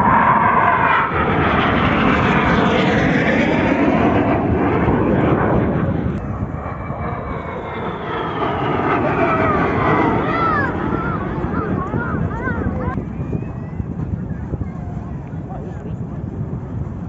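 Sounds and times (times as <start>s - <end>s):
jet aircraft passing: 0.0s - 17.0s.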